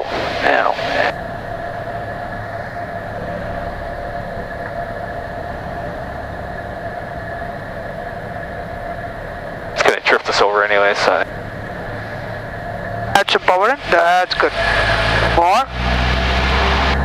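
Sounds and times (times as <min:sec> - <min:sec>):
airplane engine and propeller drone: 0:00.0 - 0:17.0
even hum: 0:00.0 - 0:17.0
low rumble: 0:00.0 - 0:17.0.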